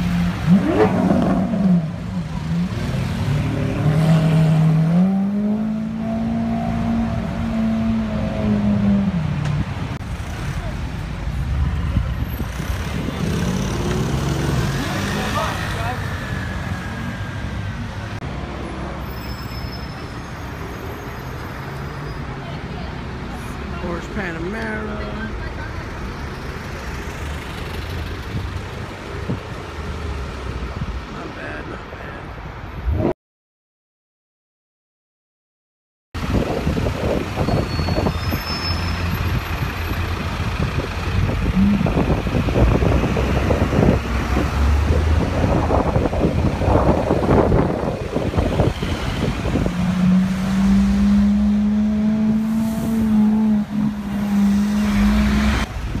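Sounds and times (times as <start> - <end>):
low traffic rumble: 0.0 - 33.1, 36.2 - 56.0
road traffic passing: 0.0 - 33.1, 36.2 - 56.0.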